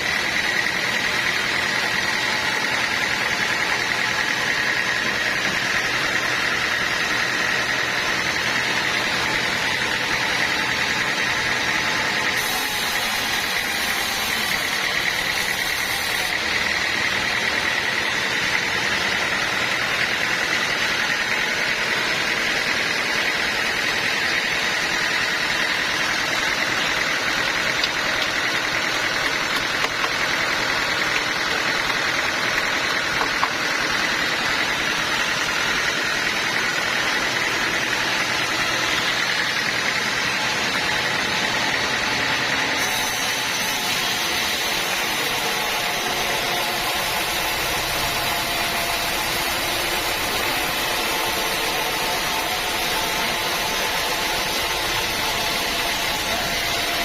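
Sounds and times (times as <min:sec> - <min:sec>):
loud machine noise: 0:00.0 - 0:57.0
sawmill saw whining: 0:00.0 - 0:57.0.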